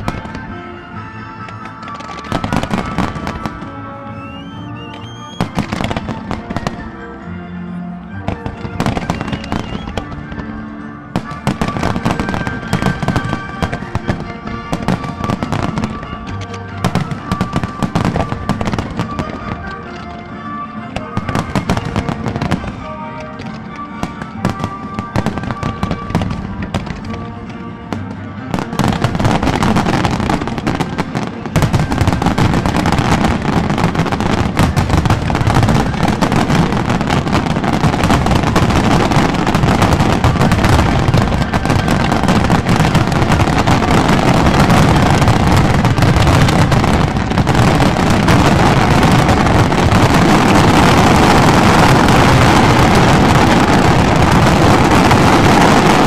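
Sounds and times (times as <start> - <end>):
music: 0.0 - 56.0.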